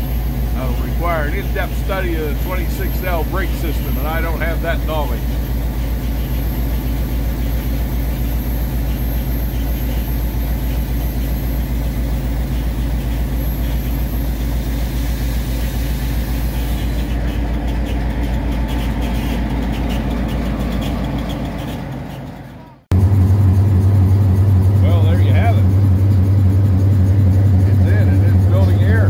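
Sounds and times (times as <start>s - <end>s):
diesel locomotive engine idling: 0.0s - 29.0s.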